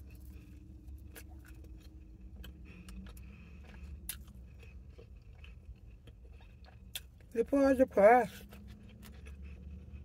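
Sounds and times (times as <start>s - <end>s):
crunchy chewing: 0.0s - 7.6s, 8.2s - 10.0s
low steady rumble: 0.0s - 10.0s.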